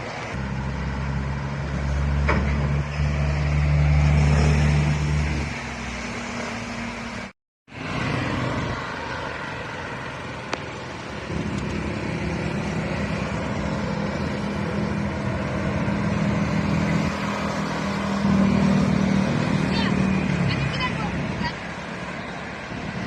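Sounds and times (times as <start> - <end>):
passing road traffic: 0.0 - 23.0
vehicle engine drone: 0.0 - 23.0.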